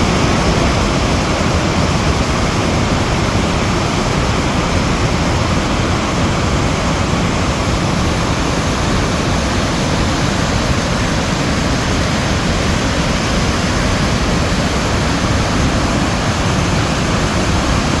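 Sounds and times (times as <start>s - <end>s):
rush of falling water: 0.0s - 18.0s.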